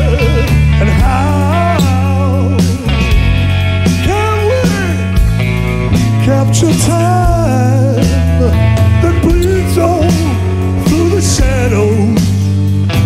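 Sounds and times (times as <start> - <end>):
man singing: 0.0 - 5.3, 5.9 - 12.6
bass guitar: 0.0 - 13.0
drums: 0.0 - 13.0
electric guitar: 0.0 - 13.0.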